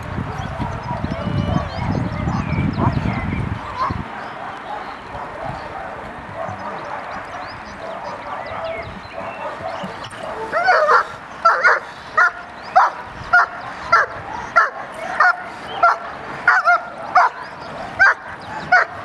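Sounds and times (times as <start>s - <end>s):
dog barking: 3.6s - 19.0s.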